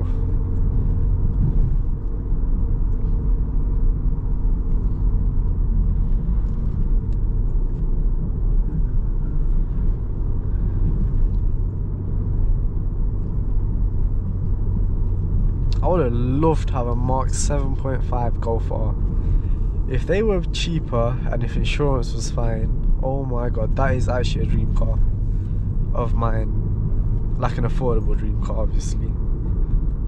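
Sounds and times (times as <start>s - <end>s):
car engine rumble: 0.0s - 30.0s
tyres on the road: 0.0s - 30.0s.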